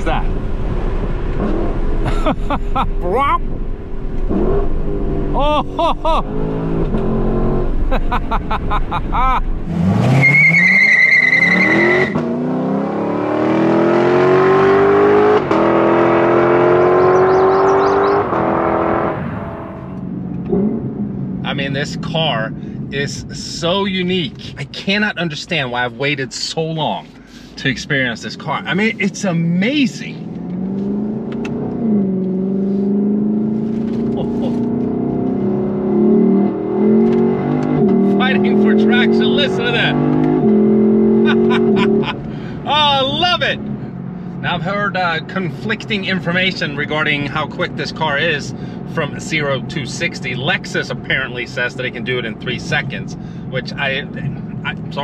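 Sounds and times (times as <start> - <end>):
car engine accelerating hard: 0.0 - 21.6, 30.1 - 55.0.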